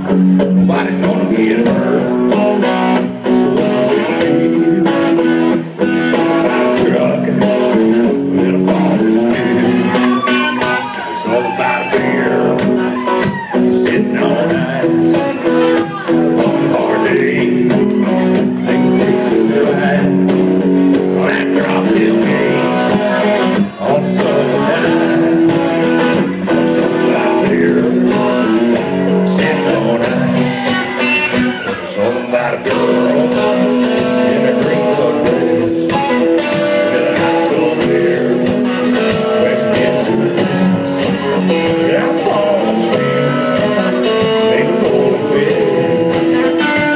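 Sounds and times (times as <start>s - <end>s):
steady drum beat: 0.0s - 46.9s
strummed electric guitars: 0.0s - 46.9s.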